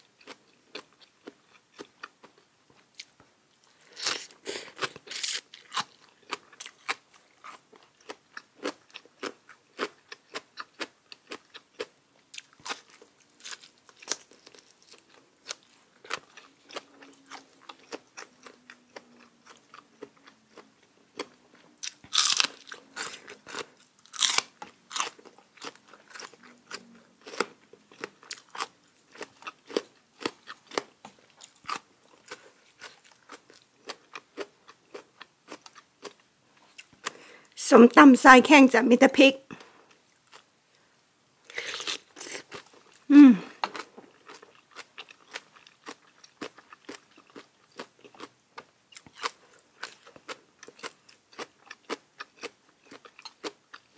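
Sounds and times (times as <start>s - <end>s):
person crunching and chewing food: 0.0s - 37.5s, 39.5s - 40.5s, 41.4s - 53.9s.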